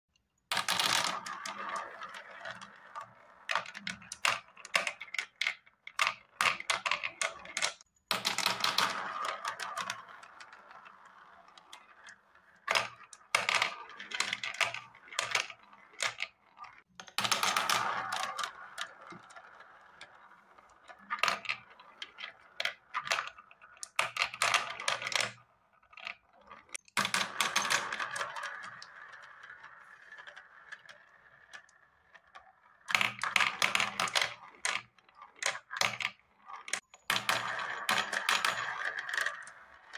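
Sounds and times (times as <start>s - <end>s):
balls rattling on marble run: 0.5s - 39.9s.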